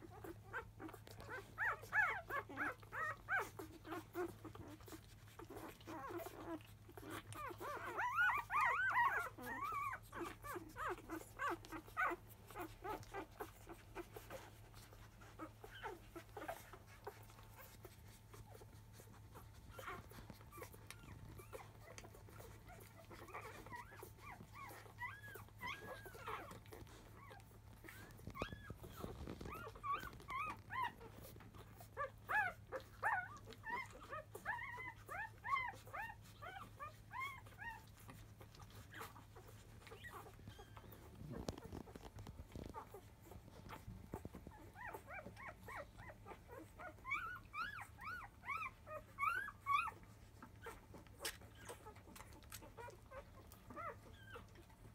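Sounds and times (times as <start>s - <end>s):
puppies squeaking and whimpering: 0.0s - 54.9s.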